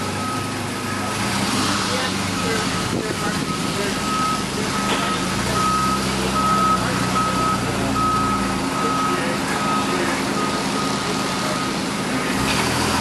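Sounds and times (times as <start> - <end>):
vehicle reversing alarm beeping: 0.0 - 1.1, 1.9 - 12.3
low engine hum: 0.0 - 13.0.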